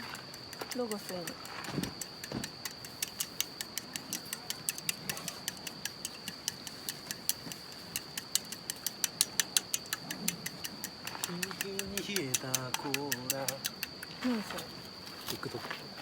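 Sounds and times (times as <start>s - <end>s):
rapid sharp clicking: 0.0s - 14.2s.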